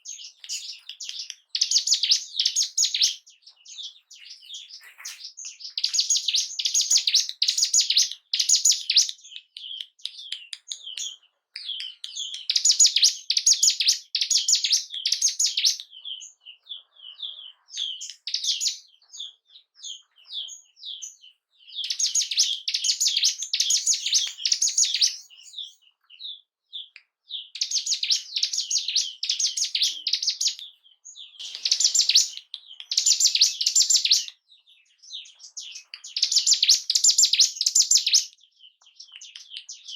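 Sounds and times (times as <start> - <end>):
bird rapid high chirping: 0.0 - 39.9.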